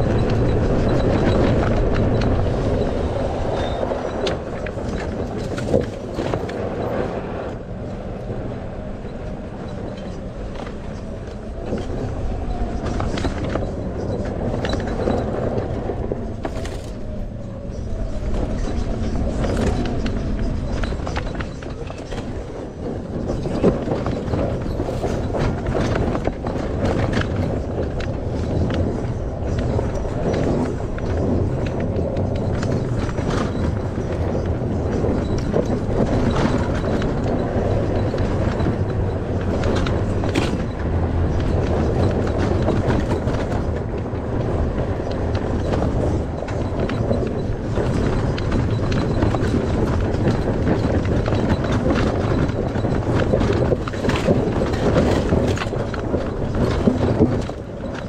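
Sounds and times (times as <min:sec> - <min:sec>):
tyres rumbling on dirt: 0:00.0 - 0:58.0
vehicle knocking and rattling: 0:00.0 - 0:58.0.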